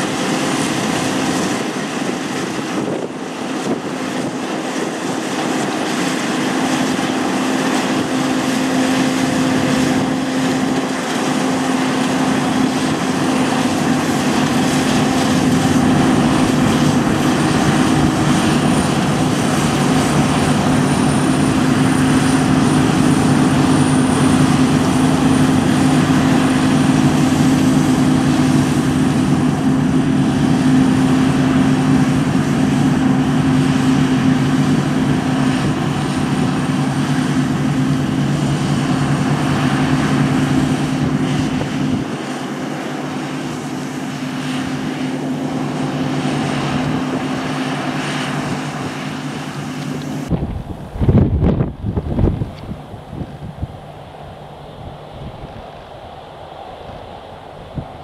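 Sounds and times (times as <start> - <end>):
combine harvester droning: 0.0 - 58.0.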